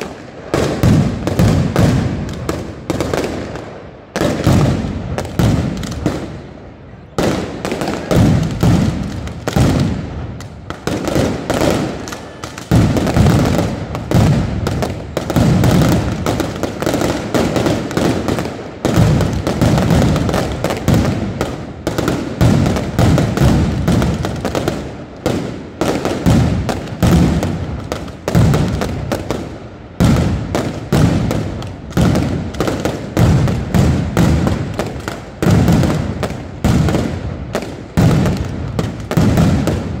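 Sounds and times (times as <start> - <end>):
firecracker bangs: 0.0 - 6.6, 7.2 - 40.0.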